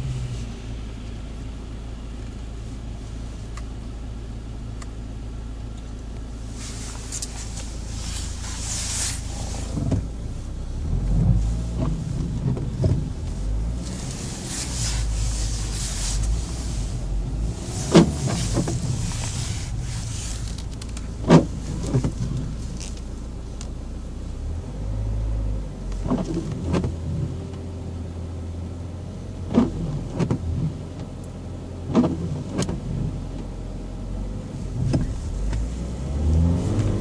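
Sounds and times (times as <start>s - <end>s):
car engine drone: 0.0s - 37.0s
road and wind hiss: 0.0s - 37.0s.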